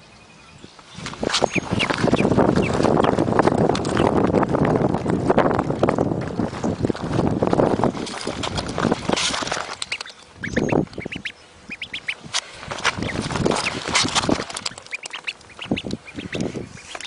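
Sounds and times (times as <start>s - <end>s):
duckling peeping: 0.0s - 17.0s
wind on microphone: 0.5s - 17.0s.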